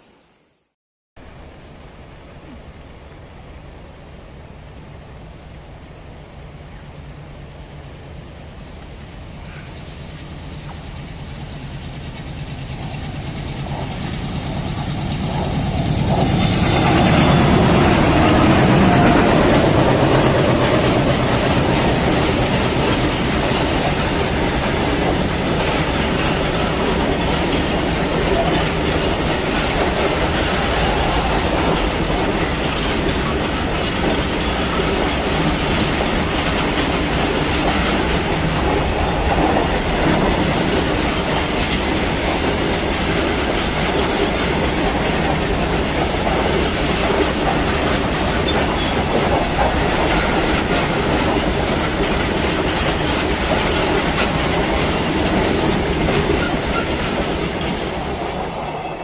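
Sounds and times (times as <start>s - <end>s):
train wheels clattering on rails: 9.4s - 59.0s.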